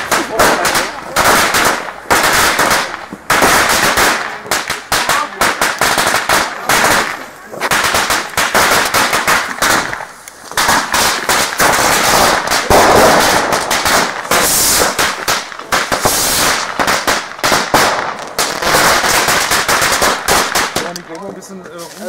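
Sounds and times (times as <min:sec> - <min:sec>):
firecrackers banging: 0:00.0 - 0:22.0.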